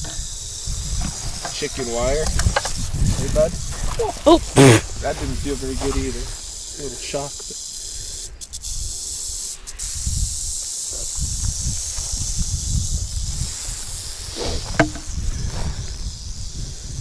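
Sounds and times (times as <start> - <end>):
rattlesnake rattling: 0.0 - 17.0.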